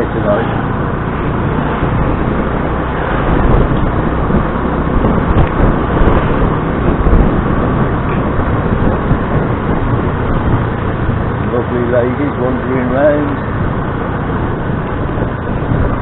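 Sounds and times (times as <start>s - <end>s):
motor scooter engine: 0.0s - 16.0s
road noise: 0.0s - 16.0s.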